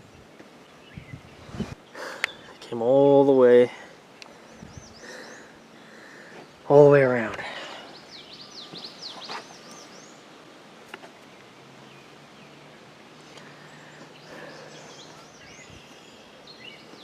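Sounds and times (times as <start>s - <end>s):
songbirds whistling: 0.0s - 2.7s, 4.1s - 6.7s, 7.6s - 10.5s, 11.1s - 17.0s.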